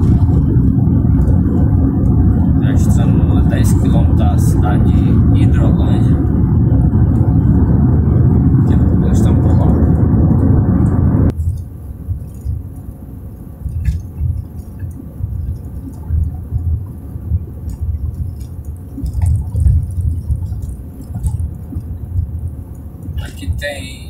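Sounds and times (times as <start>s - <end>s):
faint clicks and rattles: 0.0s - 23.6s
car driving on highway rumble: 0.0s - 24.0s.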